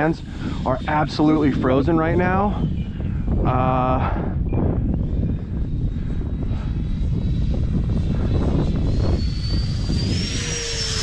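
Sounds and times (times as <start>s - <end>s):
electric ducted fan whining: 0.0s - 11.0s.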